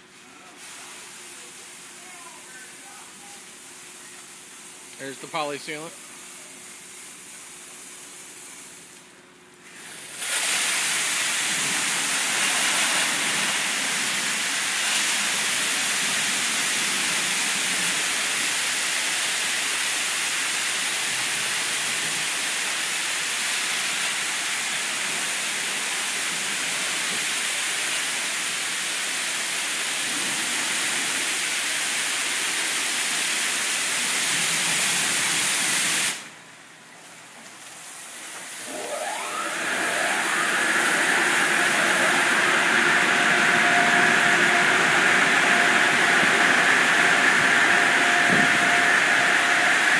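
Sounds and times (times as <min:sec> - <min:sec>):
high-pressure water jets hissing: 0:00.5 - 0:09.0, 0:09.7 - 0:36.3, 0:38.0 - 0:49.9.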